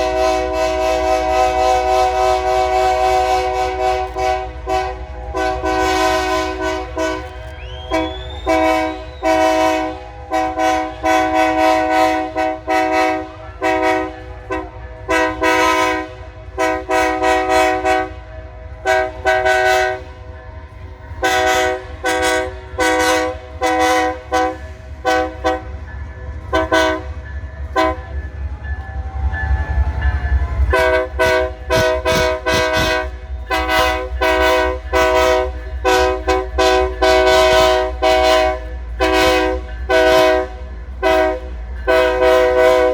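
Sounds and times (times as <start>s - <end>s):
locomotive horn blasts: 0.0s - 20.3s, 21.2s - 28.2s, 30.6s - 42.9s
locomotive engine rumble: 0.0s - 42.9s.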